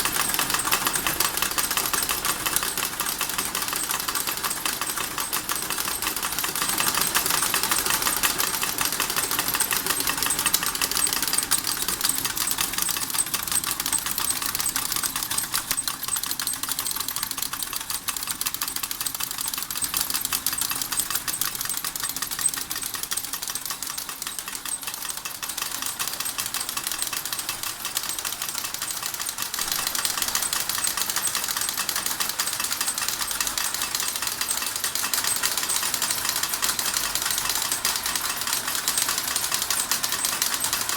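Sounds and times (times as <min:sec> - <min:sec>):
model steam engine clattering: 0:00.0 - 0:40.9.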